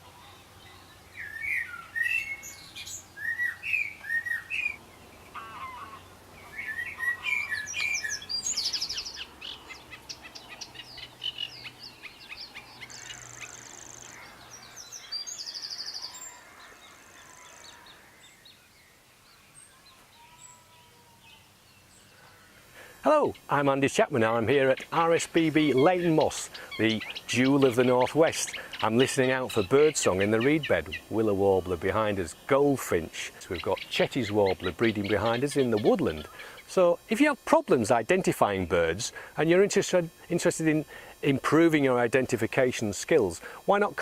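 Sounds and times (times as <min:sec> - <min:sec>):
songbirds singing: 0:00.0 - 0:44.0.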